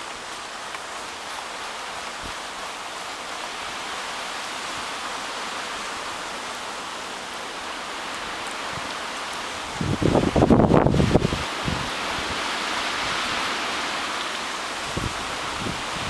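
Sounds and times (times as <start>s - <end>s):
blizzard wind and blowing snow: 0.0s - 16.0s.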